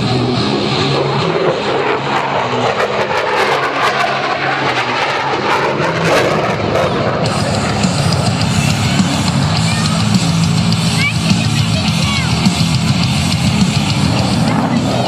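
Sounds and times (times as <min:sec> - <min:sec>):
jet engine flying past: 0:00.0 - 0:15.0.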